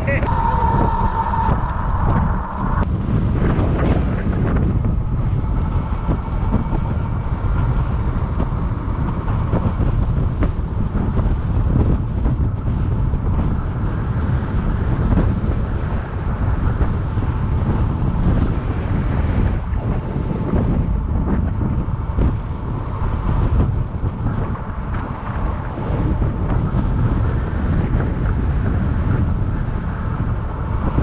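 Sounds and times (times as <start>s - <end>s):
road noise: 0.0s - 31.0s
wind buffeting microphone: 0.0s - 31.0s.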